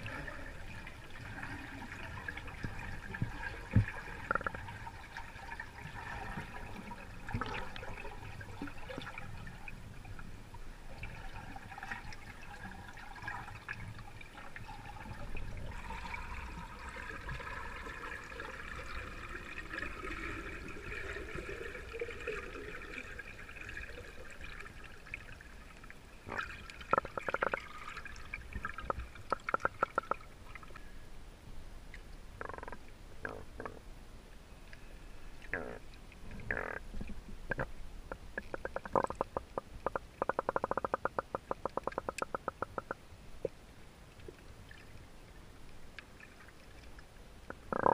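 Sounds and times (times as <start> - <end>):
underwater swirling and bubbling: 0.0 - 31.1, 31.8 - 47.9.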